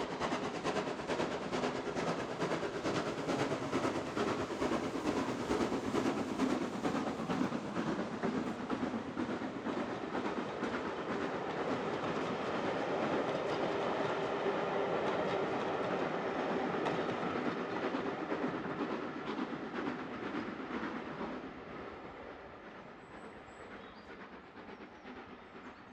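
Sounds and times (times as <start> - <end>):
train rolling past: 0.0 - 25.9.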